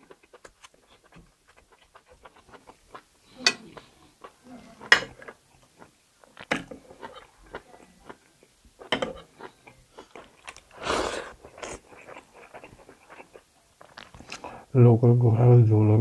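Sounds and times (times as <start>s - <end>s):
person chewing meat: 0.0s - 14.7s.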